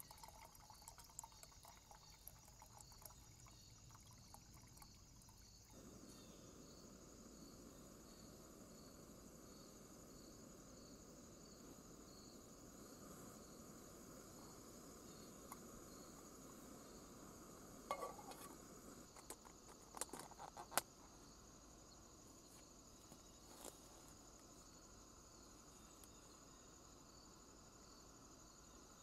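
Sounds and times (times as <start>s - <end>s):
night insects droning: 0.0s - 29.0s.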